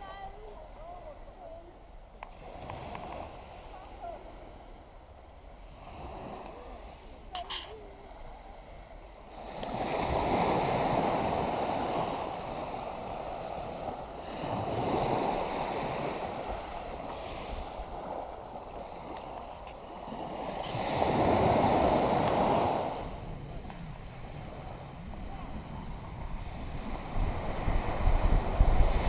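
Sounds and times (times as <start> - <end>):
sea waves washing in: 2.3 - 29.0.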